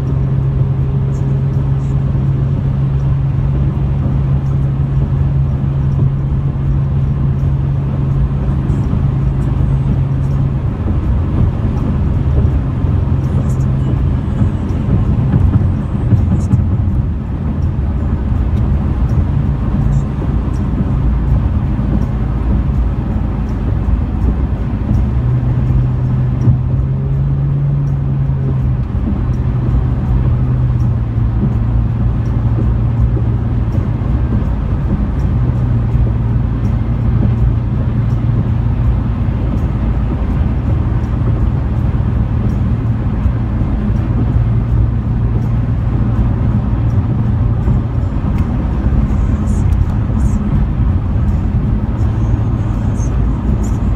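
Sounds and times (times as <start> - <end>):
tyre and engine rumble in car: 0.0 - 53.9.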